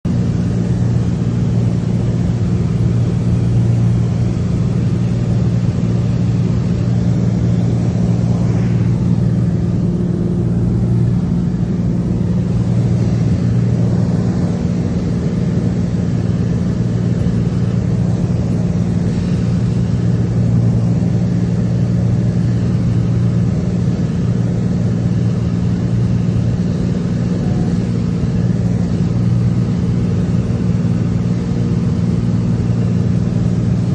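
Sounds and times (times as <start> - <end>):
aircraft engine drone: 0.1 - 33.9.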